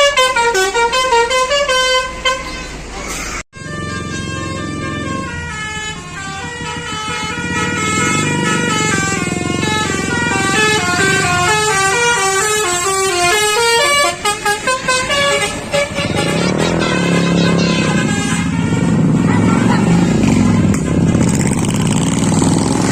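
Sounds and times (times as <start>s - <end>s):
musical air horn playing tune: 0.0s - 2.9s, 3.6s - 21.0s.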